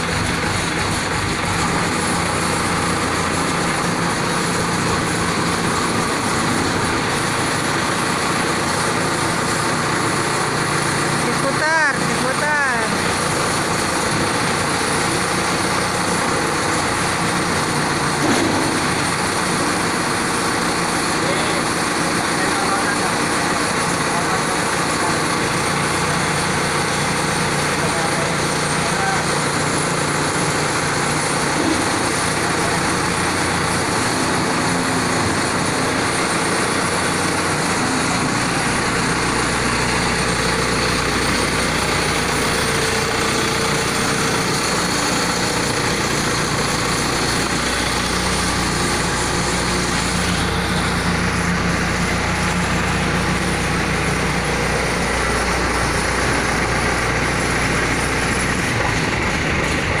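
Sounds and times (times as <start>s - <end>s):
combine harvester engine running: 0.0s - 60.0s.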